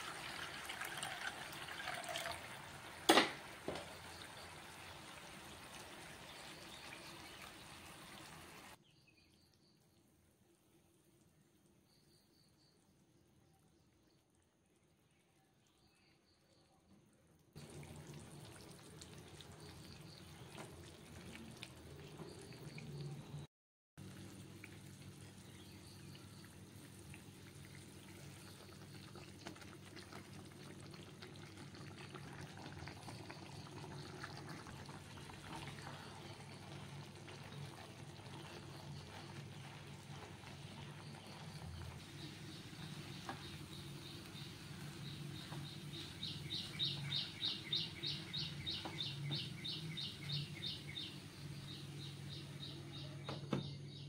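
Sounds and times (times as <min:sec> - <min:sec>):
water simmering in a frying pan: 0:00.0 - 0:08.8, 0:17.5 - 0:52.7
semolina poured and stirred: 0:00.0 - 0:53.1.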